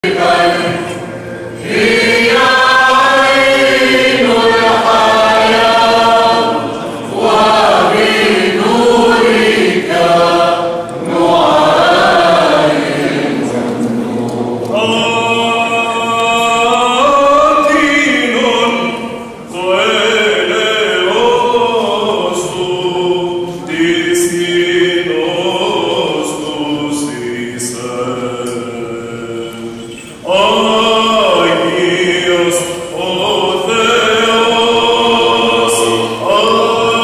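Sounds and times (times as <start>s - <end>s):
voices chanting sustained notes: 0.0s - 37.0s.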